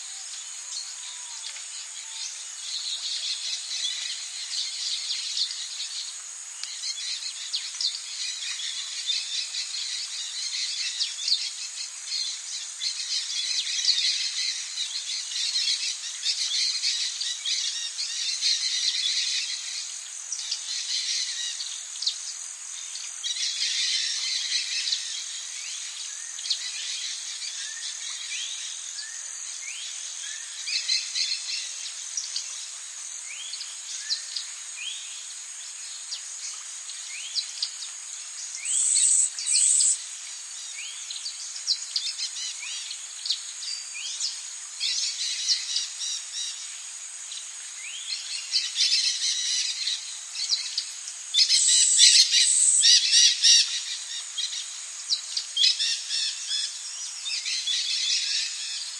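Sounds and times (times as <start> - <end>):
insect drone: 0.0 - 58.9.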